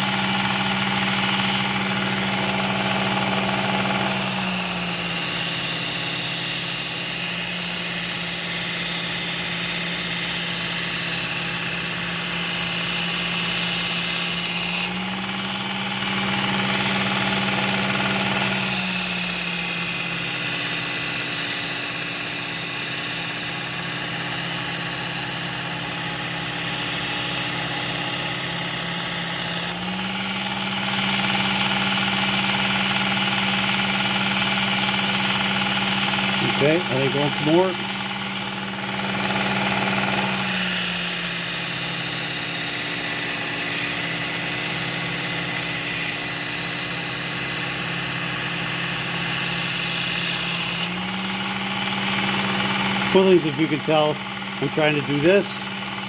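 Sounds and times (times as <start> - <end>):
belt sharpener motor humming: 0.0 - 56.0
blade grinding on belt: 0.0 - 56.0.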